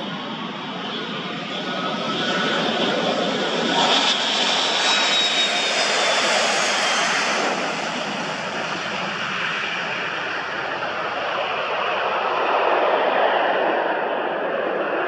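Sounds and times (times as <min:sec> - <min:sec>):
jet engines roaring past: 0:00.0 - 0:15.0.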